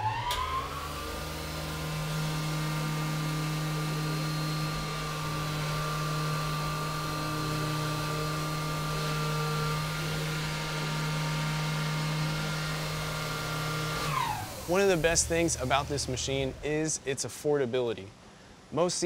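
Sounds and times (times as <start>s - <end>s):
milling machine hum and whine: 0.0s - 17.1s.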